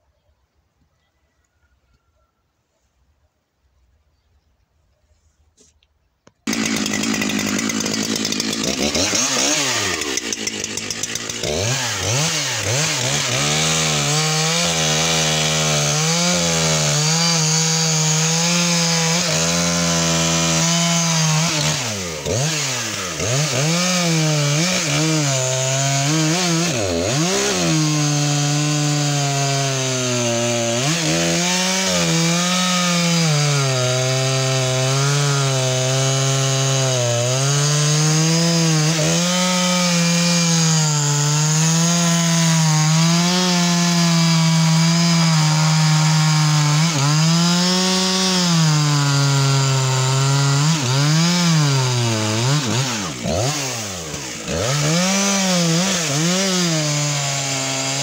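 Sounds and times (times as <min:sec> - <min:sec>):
chainsaw cutting log: 0:06.4 - 0:58.0.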